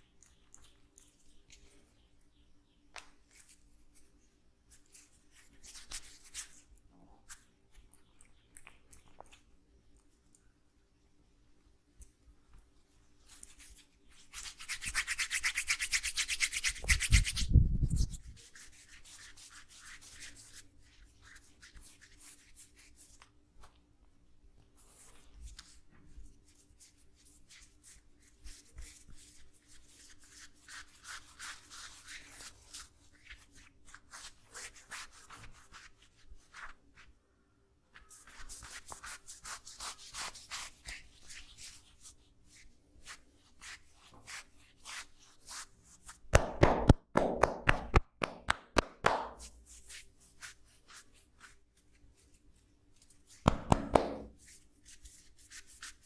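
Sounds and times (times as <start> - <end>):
hands rubbing skin and clothing: 2.9 - 10.0, 12.5 - 23.9, 24.6 - 37.2, 37.9 - 56.0.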